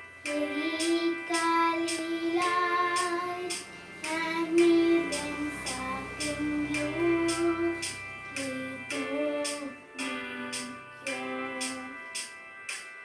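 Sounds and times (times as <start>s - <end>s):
instrumental backing with beat: 0.0s - 13.0s
child singing: 0.2s - 12.1s.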